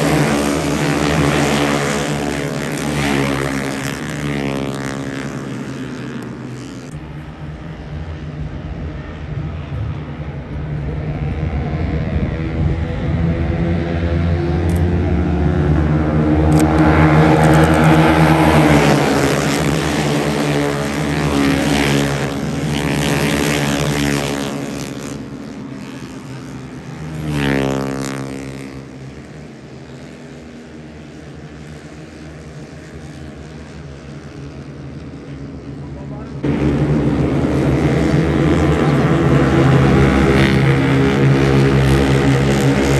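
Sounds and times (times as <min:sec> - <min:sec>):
racing motorcycles passing: 0:00.0 - 0:42.9.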